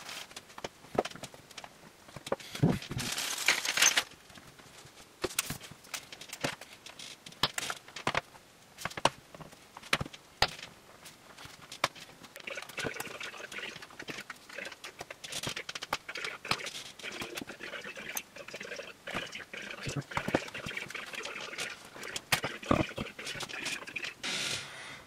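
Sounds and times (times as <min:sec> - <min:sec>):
rustling handling noise: 0:00.0 - 0:24.2.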